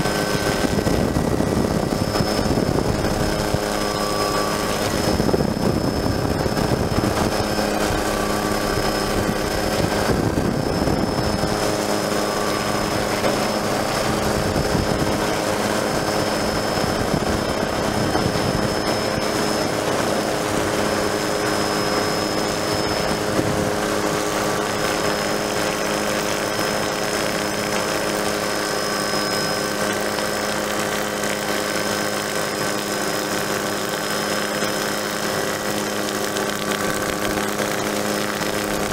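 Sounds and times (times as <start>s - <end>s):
helicopter turbine and rotor: 0.0s - 38.9s
thin high whine: 0.0s - 38.9s.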